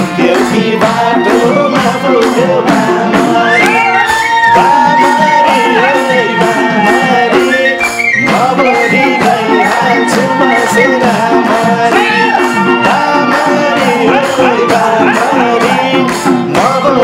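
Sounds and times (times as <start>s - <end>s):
steady percussion beat: 0.0s - 17.0s.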